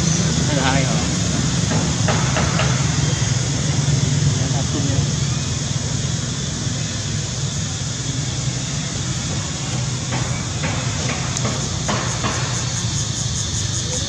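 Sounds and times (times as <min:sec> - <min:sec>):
low rumble with hiss: 0:00.0 - 0:14.0.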